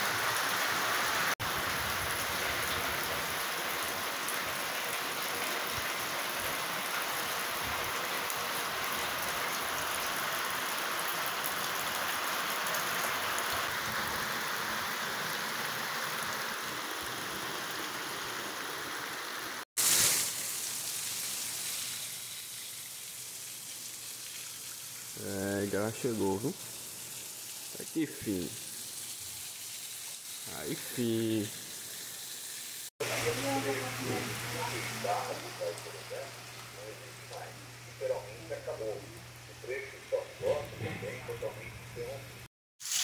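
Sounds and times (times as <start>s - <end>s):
rain on tiled roofs: 0.0s - 39.9s.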